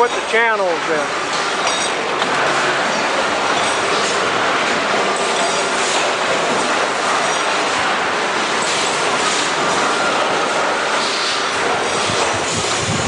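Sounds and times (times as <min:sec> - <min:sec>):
metalworking machines running: 0:00.0 - 0:13.0.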